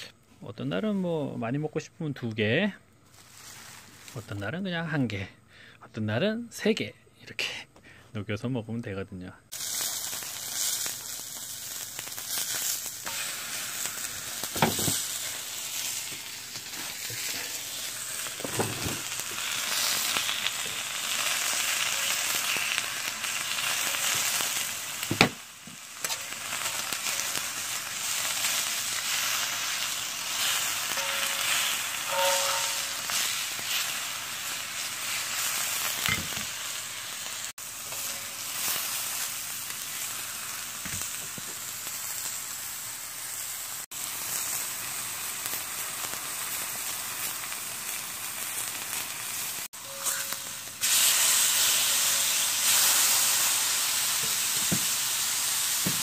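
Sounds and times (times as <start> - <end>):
meat sizzling on griddle: 3.0 - 4.2, 9.5 - 56.0.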